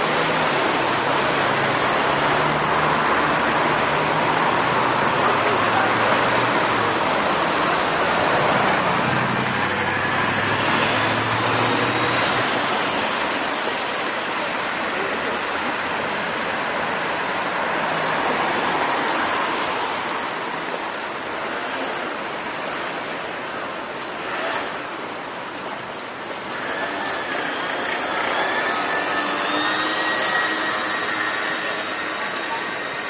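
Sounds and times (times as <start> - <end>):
crowd hubbub: 0.0 - 33.0
traffic: 0.0 - 33.0.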